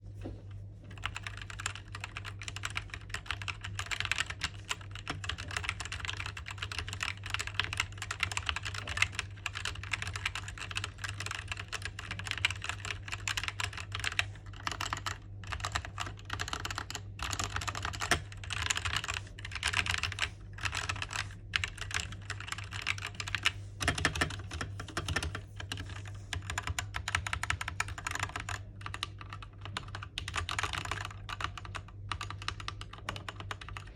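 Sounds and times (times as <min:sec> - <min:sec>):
steady low hum: 0:00.0 - 0:33.9
mechanical keyboard typing: 0:00.9 - 0:33.9.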